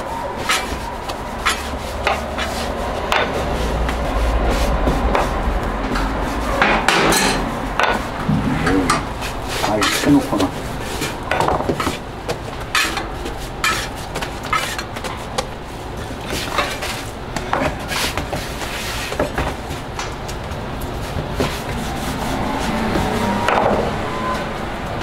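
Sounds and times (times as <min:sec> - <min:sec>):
metal spatula scraping griddle: 0:00.0 - 0:15.4, 0:16.2 - 0:19.3, 0:21.4 - 0:24.6.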